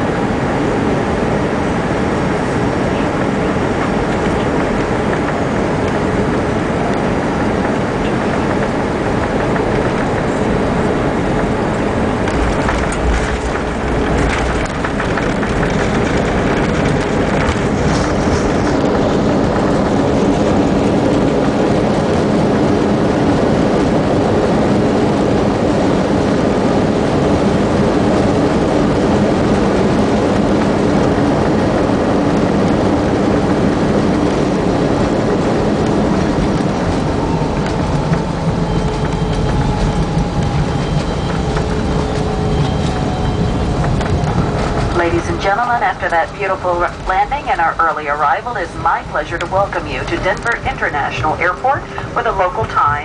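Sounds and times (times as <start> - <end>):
aircraft engine and airflow noise: 0.0 - 53.0.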